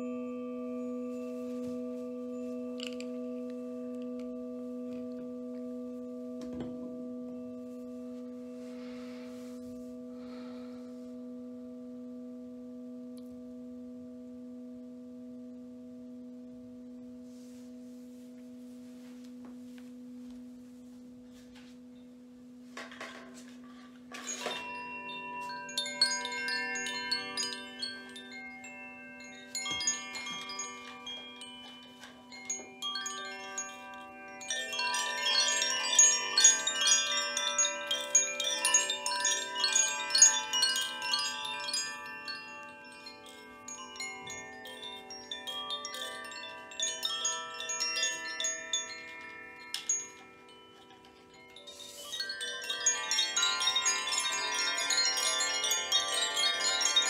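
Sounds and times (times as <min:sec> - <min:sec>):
high chime tones: 0:00.0 - 0:12.1, 0:16.9 - 0:57.0
singing bowl low tone: 0:00.0 - 0:50.4.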